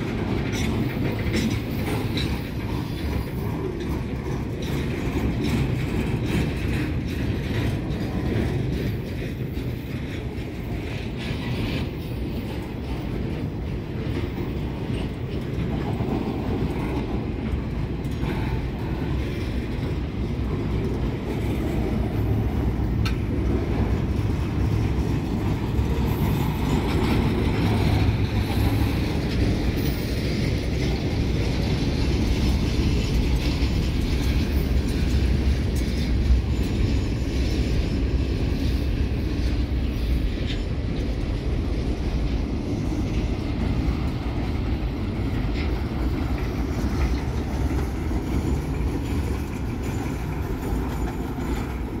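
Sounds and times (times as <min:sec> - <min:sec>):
rattle of rail cars: 0:00.0 - 0:52.0
train wheels rumbling on track: 0:00.0 - 0:52.0.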